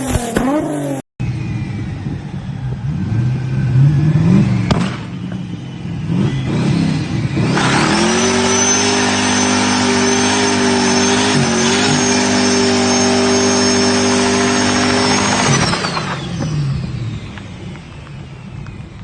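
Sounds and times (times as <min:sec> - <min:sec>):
sports car engine revving: 0:00.0 - 0:18.9.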